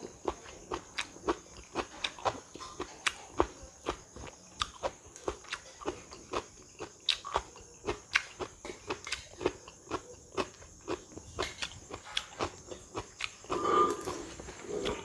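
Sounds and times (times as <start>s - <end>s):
chewing crisp food: 0.0s - 15.0s.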